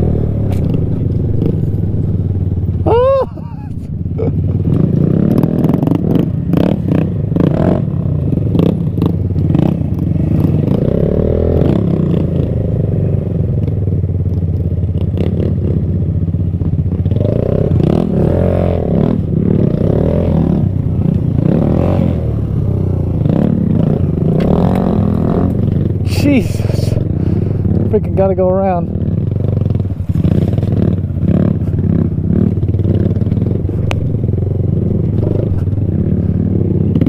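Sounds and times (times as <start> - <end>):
motorcycle clattering over bumps: 0.0 - 2.9, 3.6 - 37.0
motorcycle engine running: 0.0 - 37.0.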